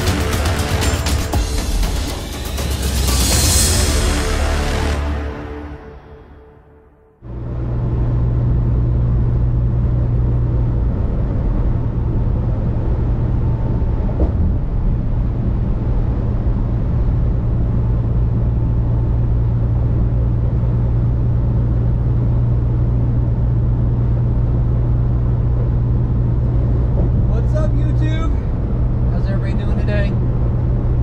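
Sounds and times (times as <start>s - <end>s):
truck engine drone: 0.0s - 31.0s.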